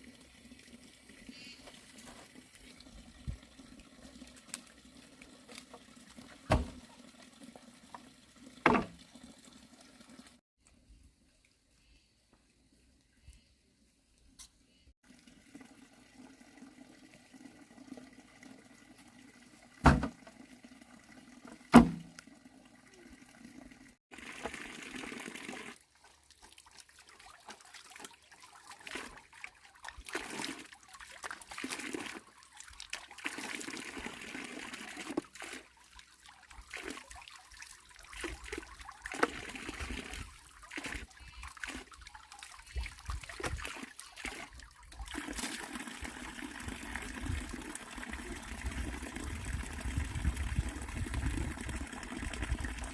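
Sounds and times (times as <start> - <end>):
water splashing and pouring: 0.0 - 10.4, 15.0 - 52.9.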